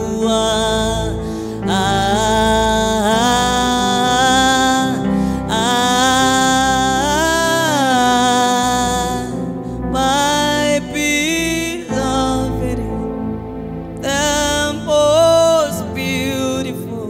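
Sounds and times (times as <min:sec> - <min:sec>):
person singing long gliding notes: 0:00.0 - 0:17.0
sustained instrumental backing: 0:00.0 - 0:17.0.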